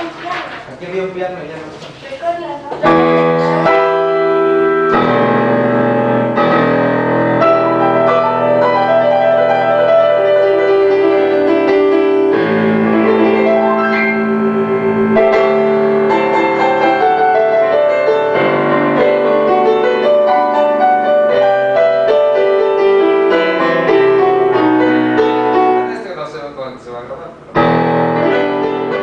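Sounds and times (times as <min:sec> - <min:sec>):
digital piano melody over chords: 0:02.8 - 0:26.5, 0:27.4 - 0:29.0.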